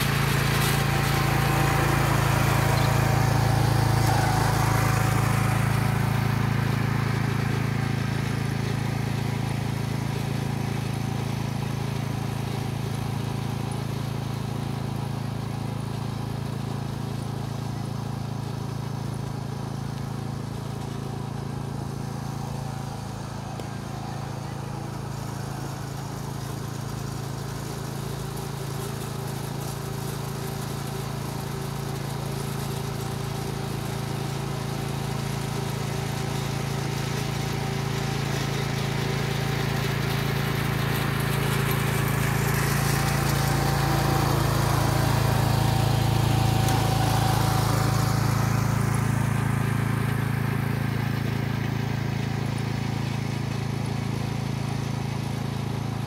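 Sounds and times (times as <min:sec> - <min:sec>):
hiss of grass cutting: 0:00.0 - 0:17.5, 0:18.1 - 0:56.0
petrol lawn mower running: 0:00.0 - 0:56.0.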